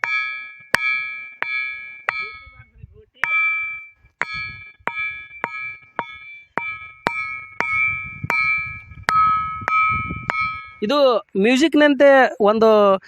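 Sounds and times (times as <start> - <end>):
stone striking ringing rock: 0.0 - 11.2.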